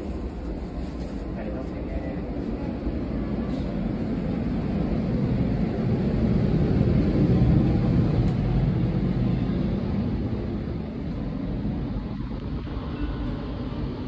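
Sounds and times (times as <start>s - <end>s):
train rumbling inside car: 0.0s - 14.0s.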